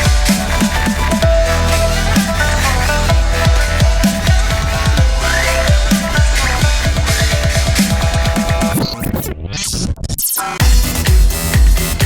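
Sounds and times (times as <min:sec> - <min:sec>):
dubstep music: 0:00.0 - 0:12.0.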